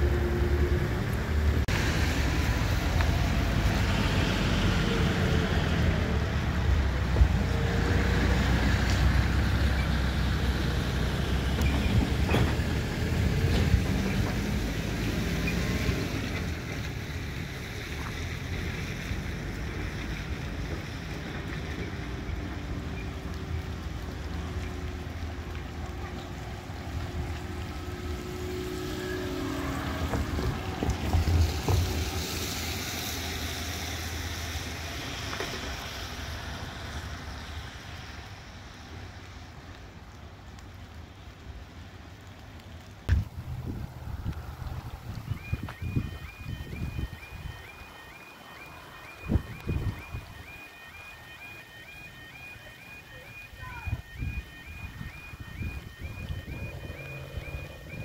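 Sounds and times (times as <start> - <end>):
diesel train engine and wheels: 0.0 - 58.0.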